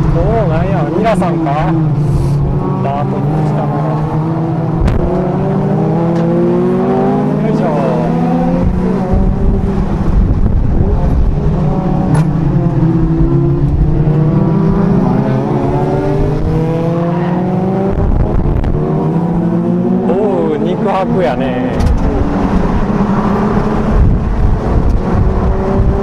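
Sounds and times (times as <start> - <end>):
car engine revving through gears: 0.0 - 26.0.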